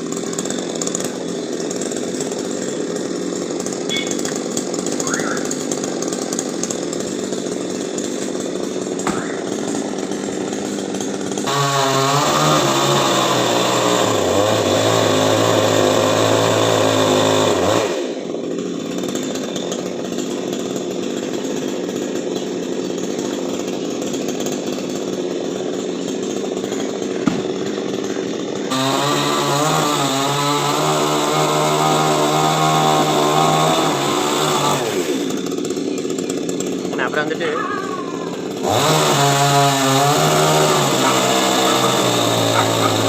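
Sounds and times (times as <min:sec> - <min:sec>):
chainsaw revving and cutting wood: 0:00.0 - 0:43.0.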